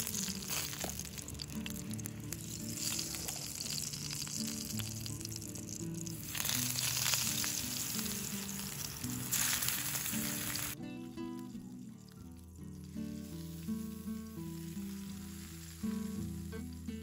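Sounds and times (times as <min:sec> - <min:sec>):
slices sizzling in hot oil: 0:00.0 - 0:10.8, 0:12.7 - 0:17.0.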